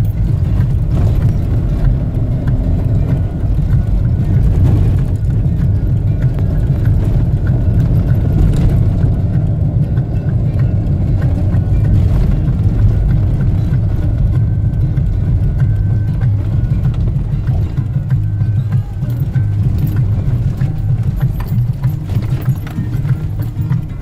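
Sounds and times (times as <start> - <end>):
engine and tyre rumble in cabin: 0.0 - 24.0.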